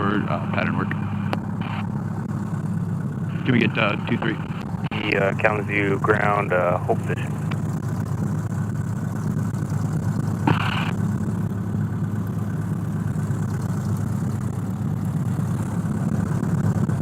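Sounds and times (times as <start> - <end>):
aircraft piston engine idling: 0.0 - 17.0.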